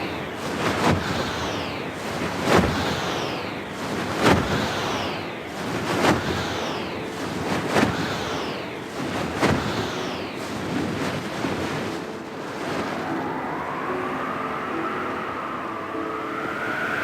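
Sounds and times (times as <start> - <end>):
faint rising whistle: 0.0 - 17.0
sweeping whoosh: 0.0 - 17.0
wind buffeting microphone: 0.0 - 17.0.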